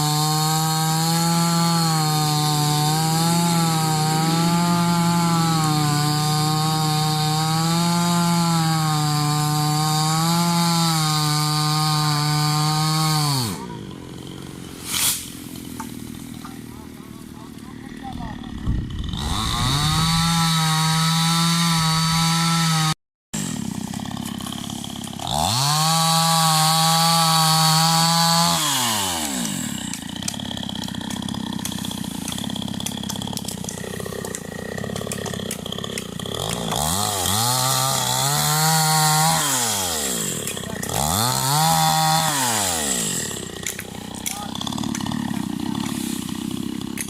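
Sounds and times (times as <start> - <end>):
chainsaw revving: 0.0 - 47.0.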